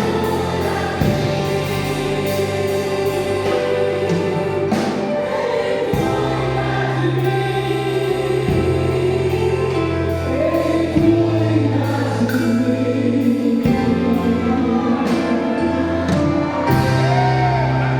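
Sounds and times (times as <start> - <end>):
choir singing gospel music: 0.0 - 17.9
instrumental backing: 0.0 - 17.9.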